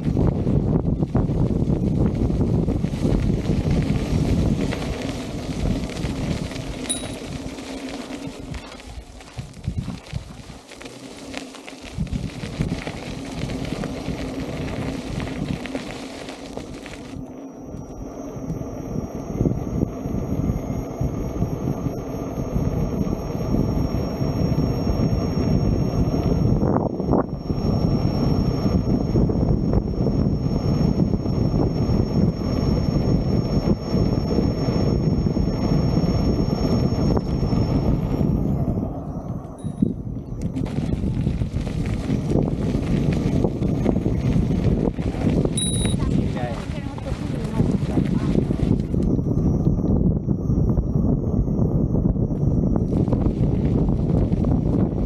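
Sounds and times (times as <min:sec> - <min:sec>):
wind buffeting microphone: 0:00.0 - 0:07.6, 0:08.2 - 0:10.7, 0:11.8 - 0:55.0
faint high whine: 0:00.0 - 0:55.0.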